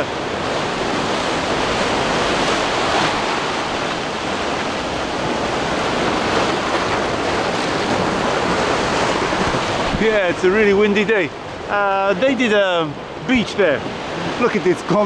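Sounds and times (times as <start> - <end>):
sea surf breaking on beach: 0.0 - 15.0
wind buffeting microphone: 0.0 - 15.0.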